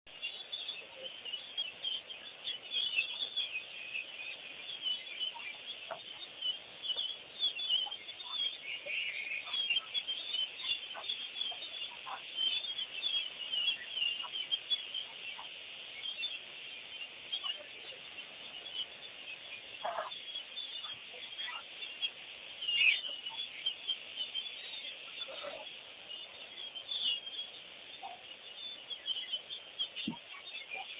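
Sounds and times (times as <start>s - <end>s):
birds chattering: 0.1s - 30.9s
lower bird calls: 0.1s - 30.9s.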